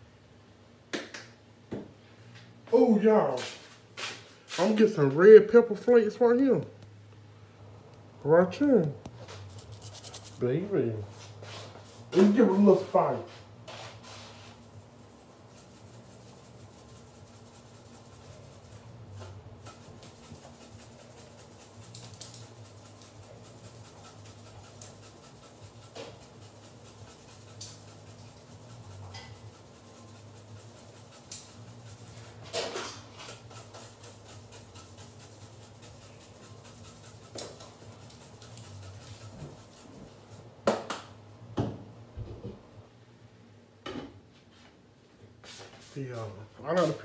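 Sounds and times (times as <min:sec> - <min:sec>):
steady low hum: 0:01.9 - 0:45.4.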